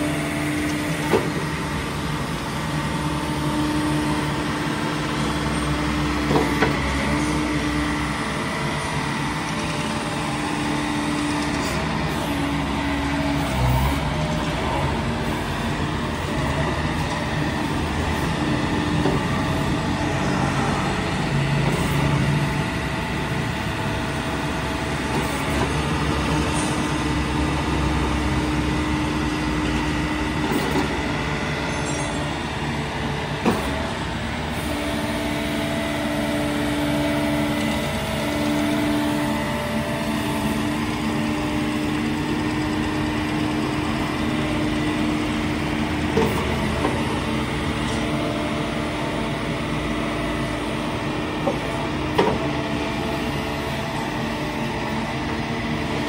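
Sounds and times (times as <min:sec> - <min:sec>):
excavator diesel engine running: 0:00.0 - 0:56.0
hydraulic whine: 0:00.0 - 0:56.0.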